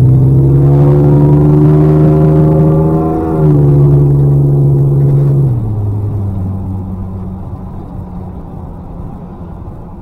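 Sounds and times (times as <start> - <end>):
engine exhaust drone: 0.0 - 10.0.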